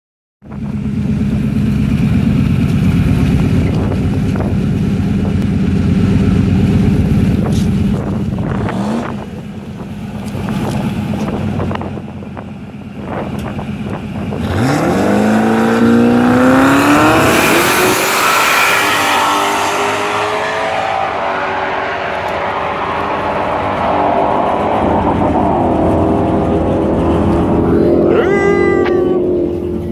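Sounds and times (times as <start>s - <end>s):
race car engine revving: 0.6s - 29.9s.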